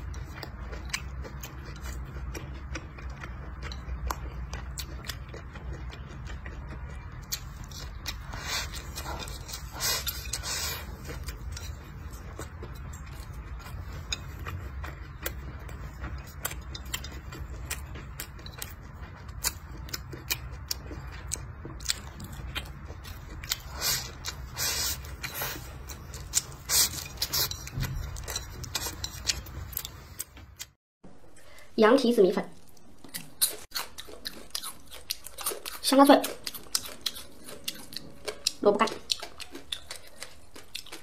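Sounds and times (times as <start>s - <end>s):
person chewing food: 0.0s - 31.6s, 32.6s - 41.0s.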